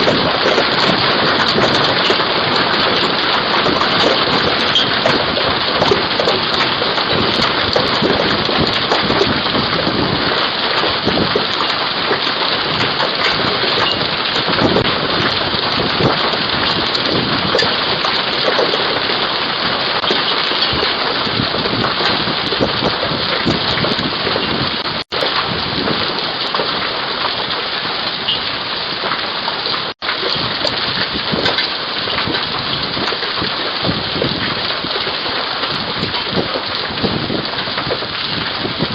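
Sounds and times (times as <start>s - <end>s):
hail and heavy rain pelting: 0.0s - 38.9s.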